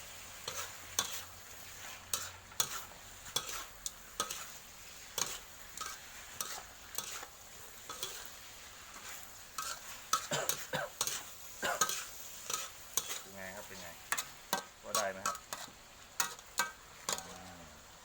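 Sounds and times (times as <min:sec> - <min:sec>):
spatula scraping a pan: 0:00.0 - 0:17.9
stir-fry sizzling: 0:00.0 - 0:18.0.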